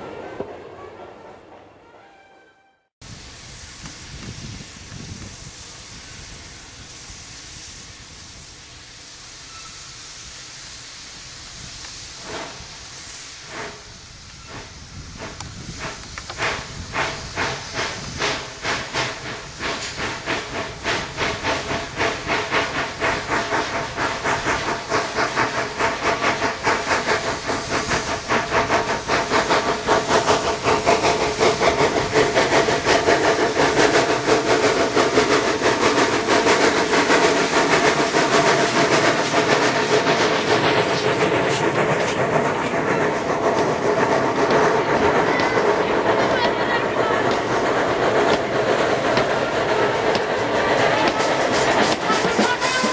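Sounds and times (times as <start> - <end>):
steam hissing: 3.0 - 52.9
steam locomotive exhaust chuffs: 3.1 - 52.9.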